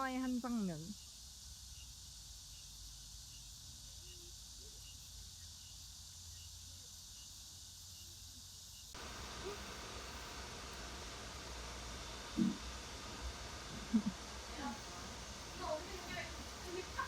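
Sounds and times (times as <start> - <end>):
insect chirping: 0.0 - 17.0
soft background hiss: 0.0 - 17.0.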